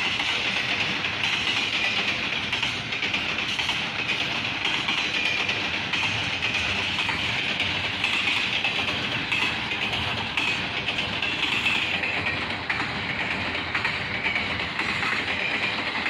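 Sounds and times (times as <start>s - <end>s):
freight train rumbling past: 0.0s - 16.0s
wheels clicking over rail joints: 0.0s - 16.0s.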